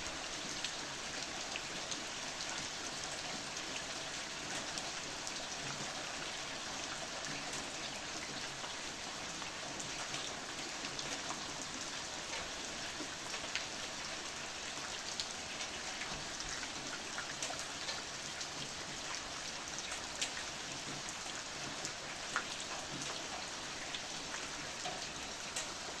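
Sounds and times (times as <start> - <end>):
raindrops ticking on a surface: 0.0 - 26.0.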